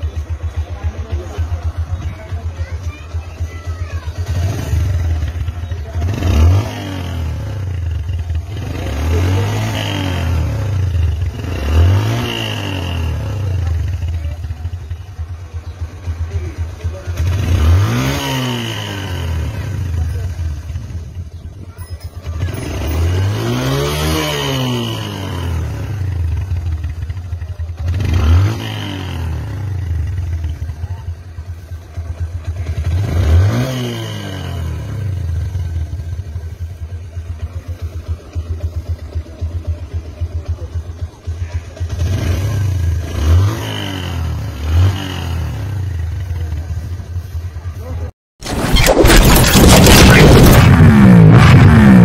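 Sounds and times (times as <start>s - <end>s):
motorcycle engine idling and revving: 0.0s - 48.2s, 48.8s - 52.0s.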